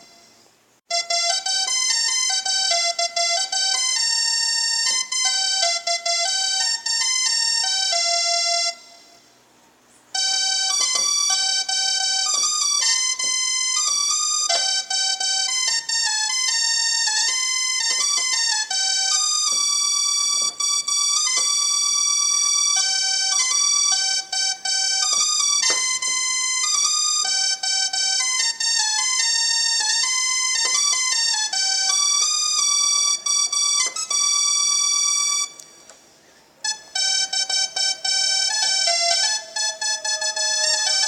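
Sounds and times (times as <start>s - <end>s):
electronic bus horn melody: 0.0s - 36.0s, 36.6s - 41.0s.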